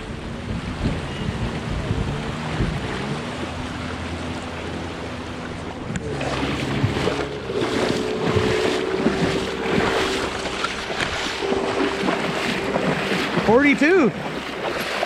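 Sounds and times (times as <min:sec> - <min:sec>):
wind on microphone: 0:00.0 - 0:04.5, 0:05.5 - 0:15.0
boat engine running: 0:00.0 - 0:15.0
water rushing and splashing: 0:00.0 - 0:15.0.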